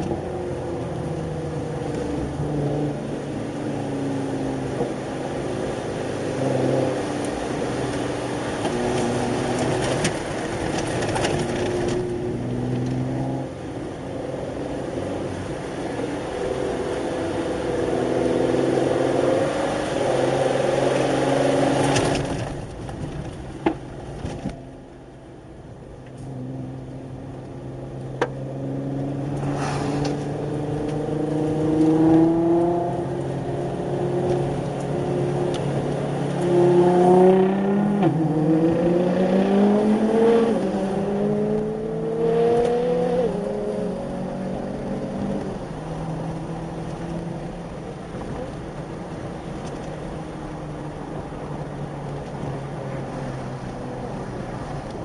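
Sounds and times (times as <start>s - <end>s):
car engine accelerating: 0.0s - 23.5s, 24.2s - 55.0s.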